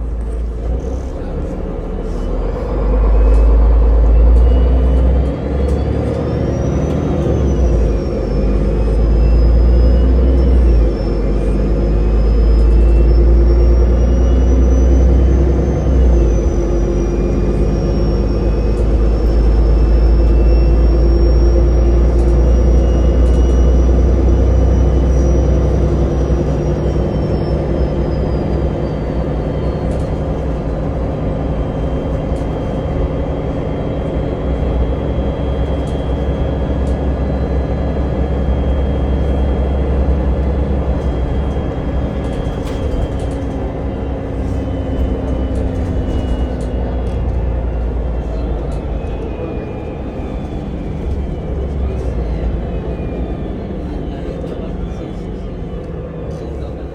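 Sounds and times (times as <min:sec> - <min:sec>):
vehicle interior rumble: 0:00.0 - 0:56.9.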